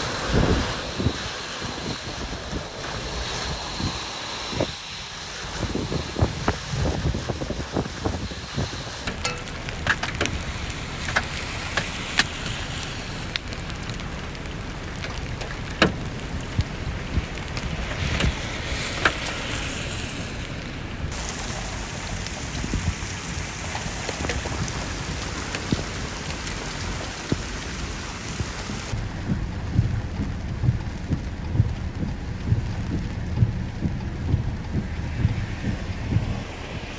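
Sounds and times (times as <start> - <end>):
heavy rain pouring: 0.0 - 36.9
sharp knocks of hailstones: 0.0 - 36.9.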